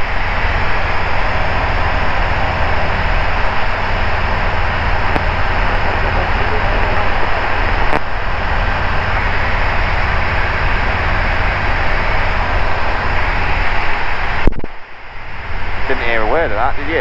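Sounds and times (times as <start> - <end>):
rushing air: 0.0 - 16.0
aircraft engine and propeller drone: 0.0 - 17.0.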